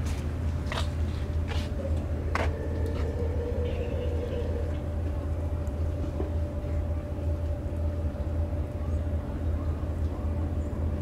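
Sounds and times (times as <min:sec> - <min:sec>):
faint constant tone: 0:00.0 - 0:11.0
low engine rumble: 0:00.0 - 0:11.0.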